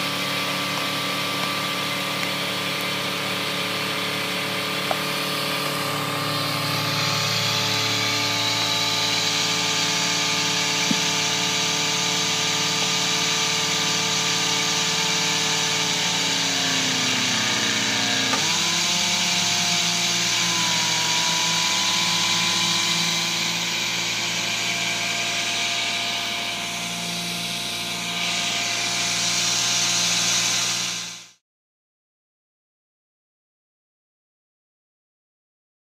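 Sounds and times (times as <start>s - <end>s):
hydraulic power pack humming: 0.0s - 31.4s.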